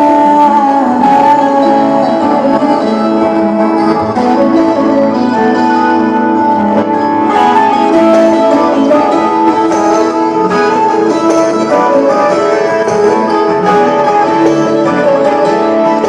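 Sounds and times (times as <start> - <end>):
plucked string instrumental music: 0.0 - 16.0.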